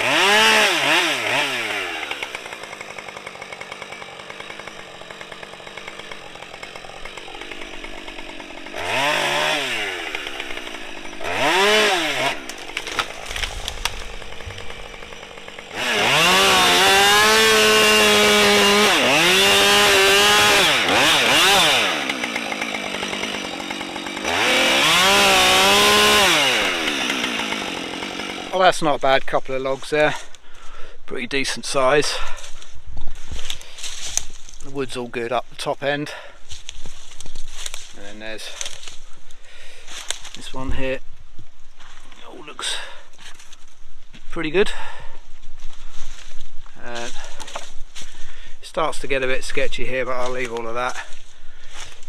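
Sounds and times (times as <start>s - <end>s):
chainsaw cutting wood: 0.0s - 28.8s, 31.6s - 41.0s, 41.8s - 52.0s
chainsaw idling and revving: 0.0s - 29.1s, 31.4s - 41.0s, 44.5s - 52.0s.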